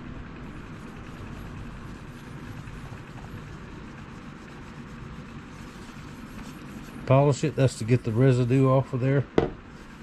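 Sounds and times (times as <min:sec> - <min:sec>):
low mechanical hum: 0:00.0 - 0:10.0
steel wool rubbing metal blade: 0:00.5 - 0:08.5.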